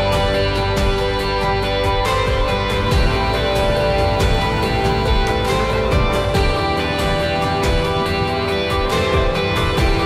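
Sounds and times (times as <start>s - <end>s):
background music with plucked guitar: 0.0s - 10.0s.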